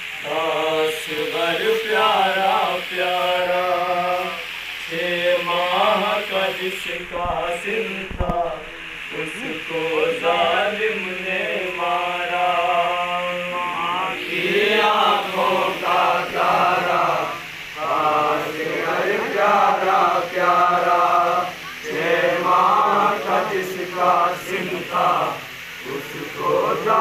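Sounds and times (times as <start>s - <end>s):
man chanting a lament: 0.2s - 27.0s.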